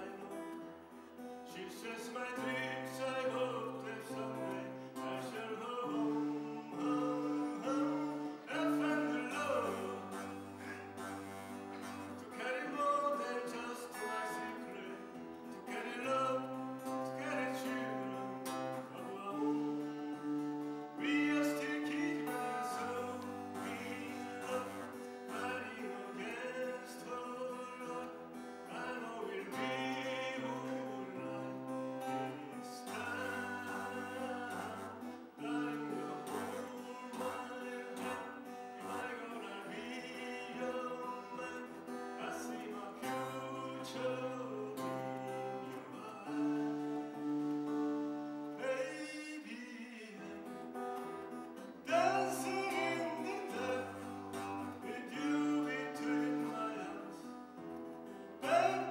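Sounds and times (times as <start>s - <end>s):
man singing: 0.0s - 47.4s, 48.5s - 58.9s
acoustic guitar: 0.0s - 58.9s.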